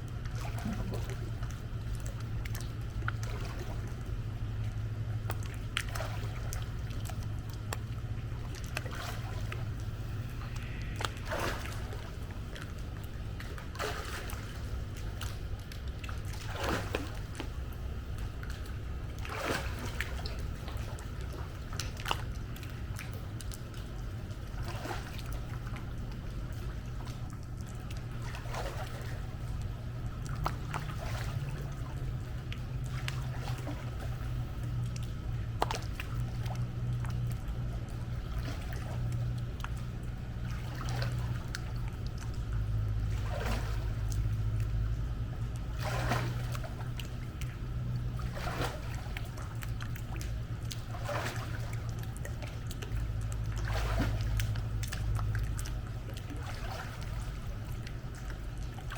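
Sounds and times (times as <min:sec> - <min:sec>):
low hum: 0:00.0 - 0:58.9
pool water sloshing and splashing: 0:00.0 - 0:58.9.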